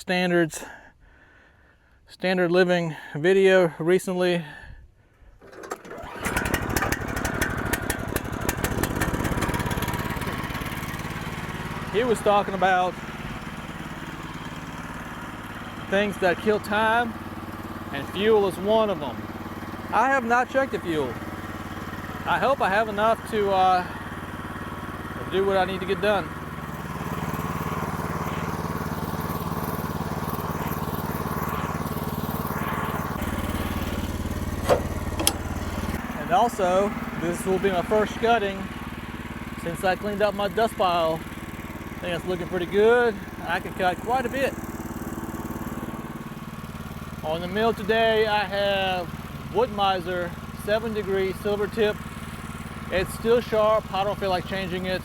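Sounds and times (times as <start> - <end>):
small gasoline engine running: 5.4 - 55.0.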